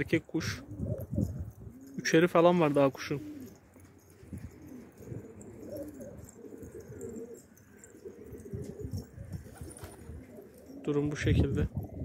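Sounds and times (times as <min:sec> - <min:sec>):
pigeons cooing: 0:00.2 - 0:12.0.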